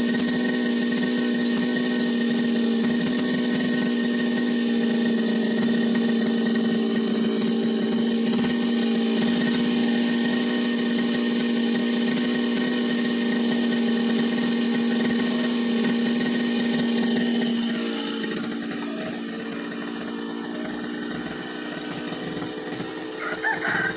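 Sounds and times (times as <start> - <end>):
brush cutter engine buzzing: 0.0 - 23.9.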